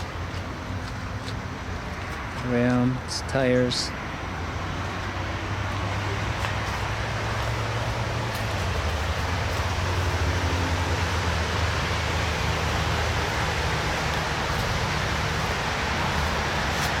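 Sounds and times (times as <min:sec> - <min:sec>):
vehicle hum and hiss: 0:00.0 - 0:17.0.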